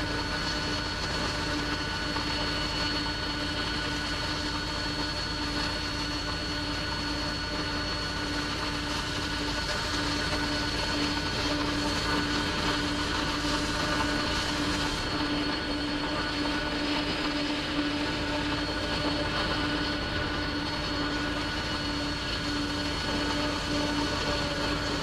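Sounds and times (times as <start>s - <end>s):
jet engines rumbling and whining: 0.0s - 25.0s.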